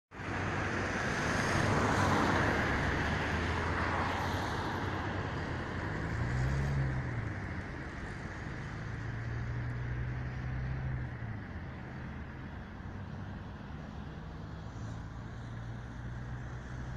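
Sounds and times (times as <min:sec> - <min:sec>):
traffic rush: 0:00.1 - 0:16.9
passing vehicle engines humming: 0:00.2 - 0:16.9.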